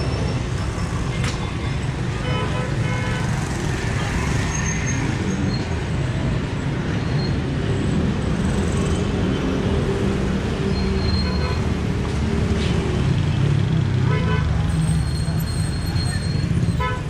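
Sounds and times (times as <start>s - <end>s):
traffic din: 0.0s - 17.0s.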